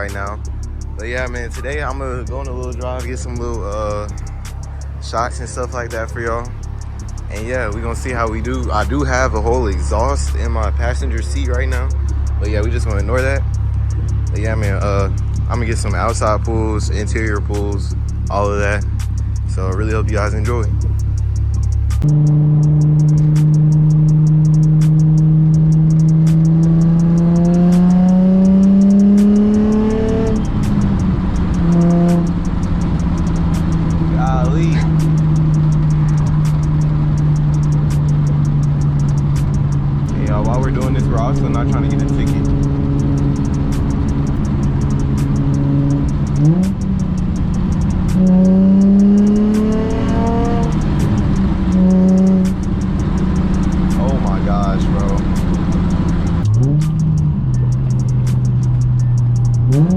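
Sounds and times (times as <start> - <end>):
car exhaust droning: 0.0 - 59.9.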